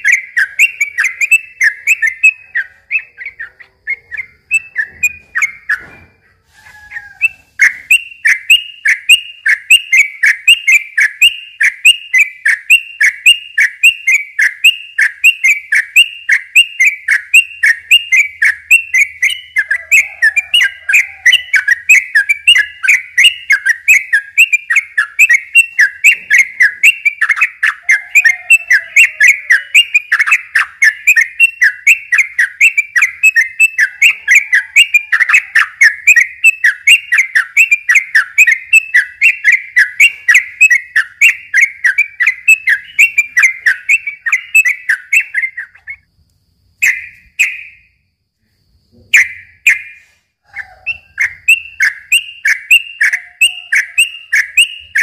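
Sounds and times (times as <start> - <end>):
bird singing rapid chirps: 0.0 - 6.0, 6.6 - 46.1, 46.7 - 48.0, 48.9 - 55.0.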